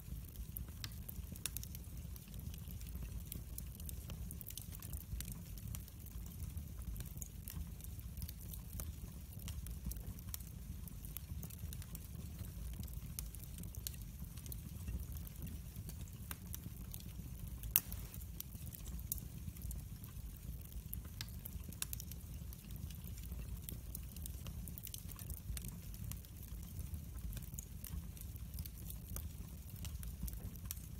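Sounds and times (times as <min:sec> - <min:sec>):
logs crackling in a fireplace: 0:00.0 - 0:30.9.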